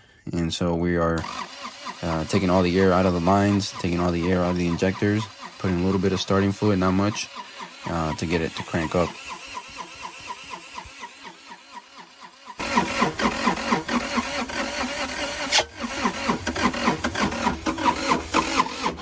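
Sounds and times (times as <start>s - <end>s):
diesel engine cranking on starter: 1.2s - 19.0s.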